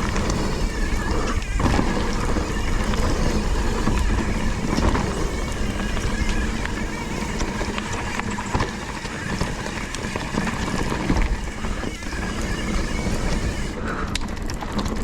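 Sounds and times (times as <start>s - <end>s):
bike rattling clicks and knocks: 0.0s - 15.0s
bike tyre rumble on dirt: 0.0s - 15.0s
wind: 0.0s - 15.0s.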